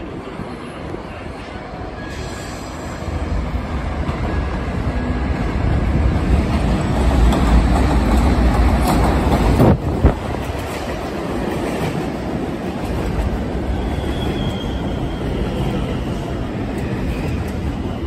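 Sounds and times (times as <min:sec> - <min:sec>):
subway train rumbling on elevated track: 0:00.0 - 0:18.0.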